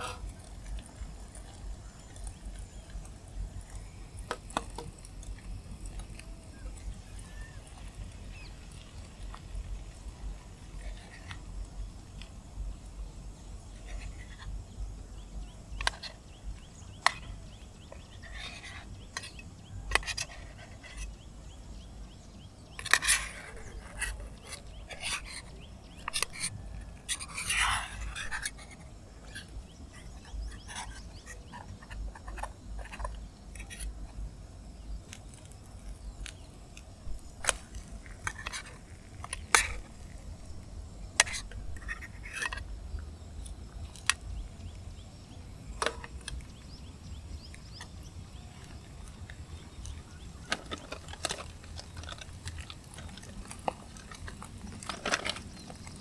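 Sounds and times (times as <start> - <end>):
small objects clicking and scraping: 0.0 - 12.4, 15.4 - 21.2, 22.7 - 44.8, 45.7 - 56.0.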